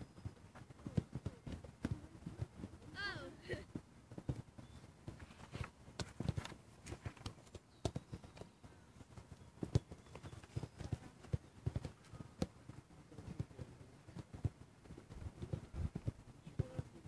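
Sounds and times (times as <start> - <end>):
soccer balls kicked thuds: 0.0 - 17.0.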